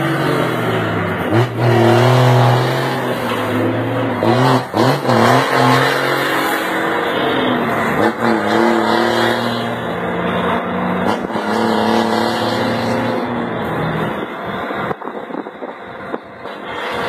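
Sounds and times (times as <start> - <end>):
diesel truck engine revving: 0.0 - 17.0.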